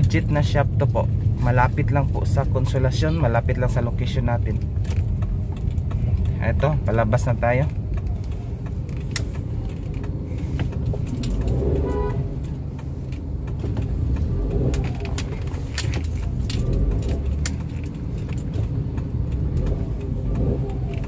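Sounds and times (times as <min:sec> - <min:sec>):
car engine and road rumble: 0:00.0 - 0:21.0
small clicks and rattles: 0:04.0 - 0:21.0.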